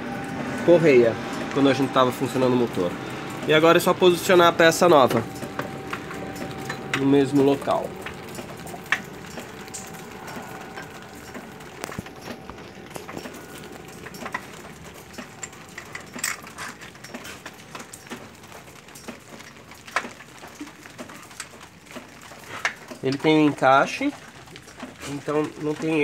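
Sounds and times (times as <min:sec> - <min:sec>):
metal parts clicking and knocking: 0:04.2 - 0:26.0.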